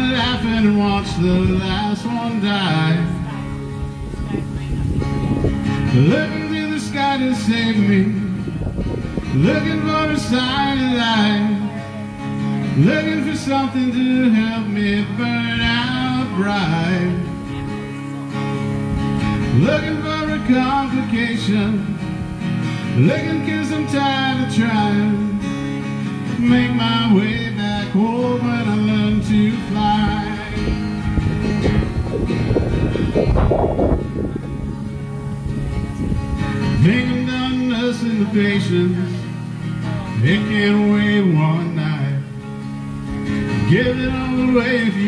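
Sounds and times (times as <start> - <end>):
man singing: 0.0 - 4.7, 5.7 - 18.7, 19.3 - 31.4, 36.5 - 42.4, 43.4 - 45.0
acoustic guitar strumming: 0.0 - 45.0.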